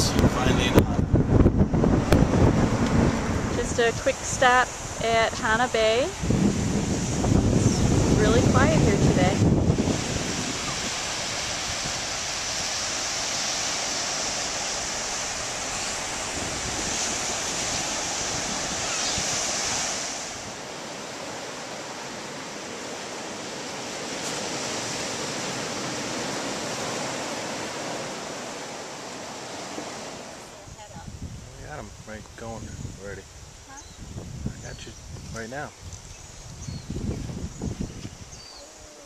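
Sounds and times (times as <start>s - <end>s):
ocean surf on beach: 0.0s - 32.0s
wind on microphone: 0.0s - 39.0s.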